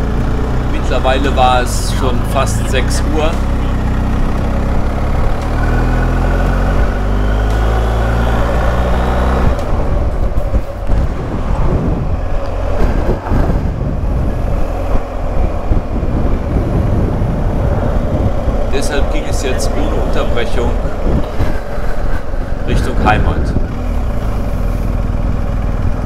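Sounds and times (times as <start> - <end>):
motorcycle engine accelerating: 0.0 - 26.0
wind buffeting microphone: 0.0 - 26.0.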